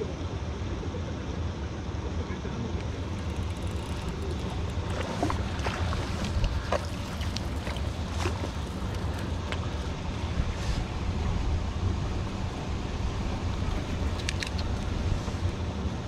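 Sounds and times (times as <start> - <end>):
wind rumbling on microphone: 2.9 - 16.0.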